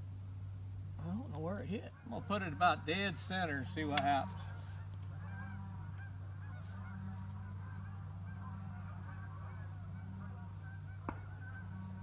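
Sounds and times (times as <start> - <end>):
steady low hum: 0.0 - 12.0
distant geese honking: 1.0 - 12.0.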